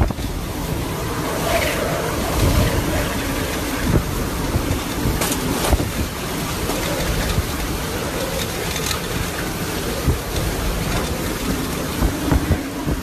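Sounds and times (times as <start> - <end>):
strong wind and heavy rain: 0.0 - 13.0.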